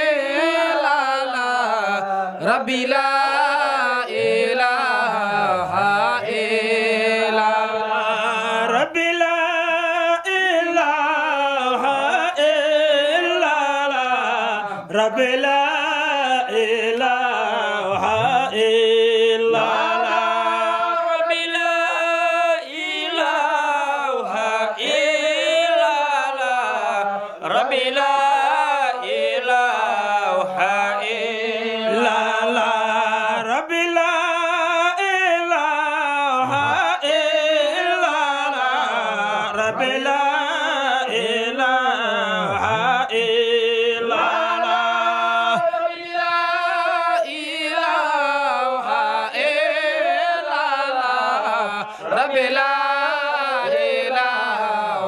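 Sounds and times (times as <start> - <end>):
man chanting into a microphone: 0.0 - 55.0.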